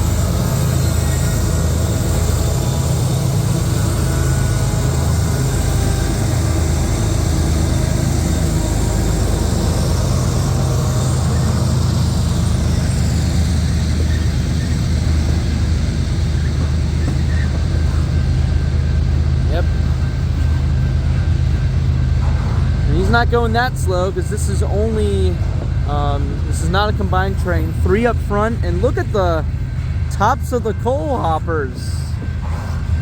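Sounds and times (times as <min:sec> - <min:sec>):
freight train rumbling past: 0:00.0 - 0:33.0.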